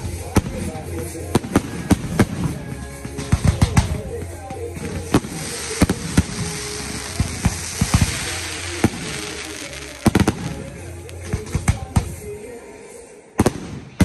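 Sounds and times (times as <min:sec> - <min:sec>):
firework bangs: 0:00.0 - 0:12.4, 0:13.4 - 0:14.0
dense continuous hiss: 0:00.0 - 0:13.8.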